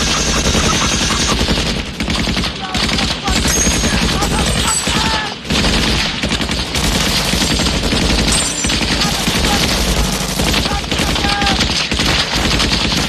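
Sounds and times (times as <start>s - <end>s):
automatic gunfire: 0.0s - 13.0s.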